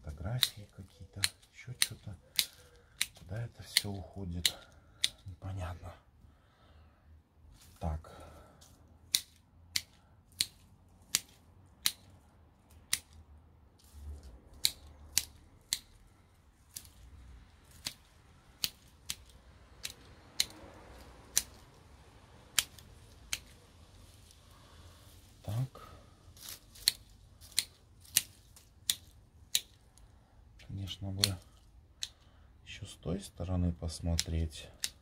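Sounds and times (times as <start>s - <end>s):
secateurs snipping: 0.2s - 5.5s, 8.6s - 13.2s, 13.8s - 32.3s, 33.9s - 35.0s.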